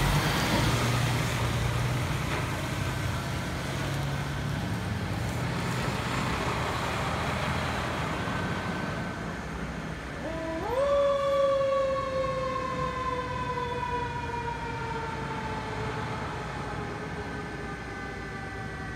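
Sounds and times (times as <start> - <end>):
fire truck engine running: 0.0 - 18.9.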